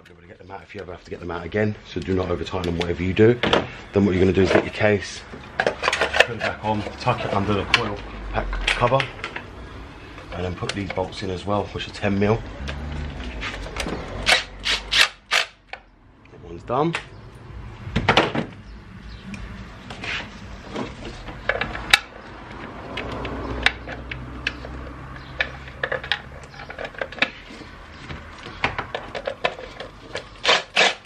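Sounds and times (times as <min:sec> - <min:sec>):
hands handling engine parts: 0:00.0 - 0:09.5, 0:10.1 - 0:14.2, 0:19.4 - 0:30.8.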